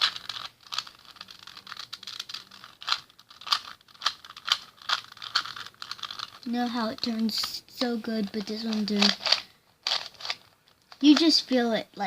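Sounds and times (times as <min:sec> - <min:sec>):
puzzle cube layers clicking: 0:00.0 - 0:11.3.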